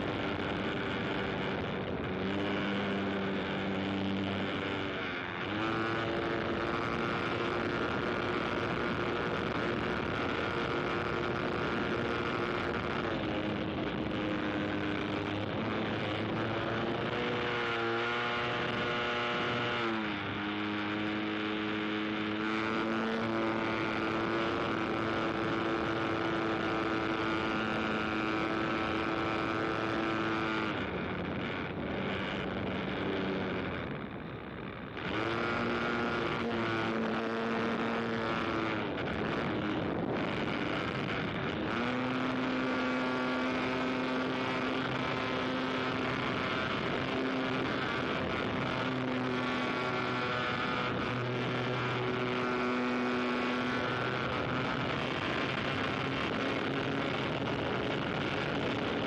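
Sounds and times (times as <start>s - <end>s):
propeller aircraft engine passing: 0.0s - 59.0s.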